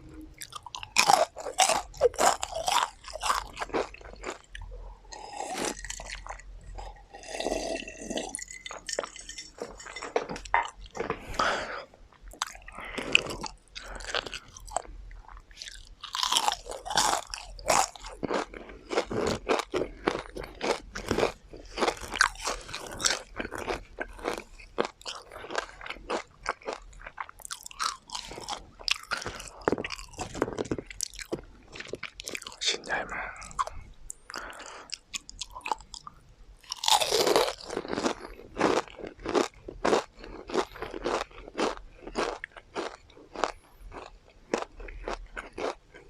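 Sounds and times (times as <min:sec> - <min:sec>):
crunchy chewing of fried food: 0:00.3 - 0:46.0.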